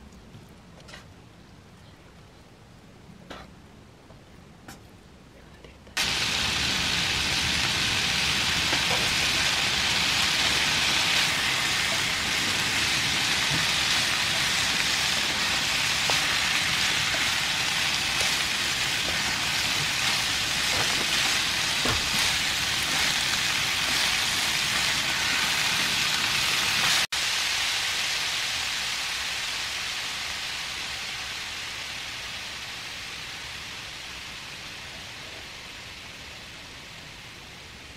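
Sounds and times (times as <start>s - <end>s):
vegetables sizzling in a pan: 6.0s - 37.6s.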